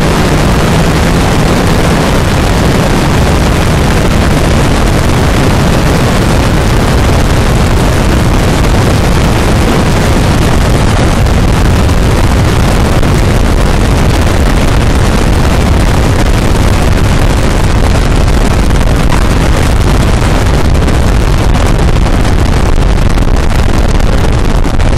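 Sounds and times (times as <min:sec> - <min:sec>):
aircraft engine: 0:00.0 - 0:24.9
wind rushing on microphone: 0:00.0 - 0:24.9.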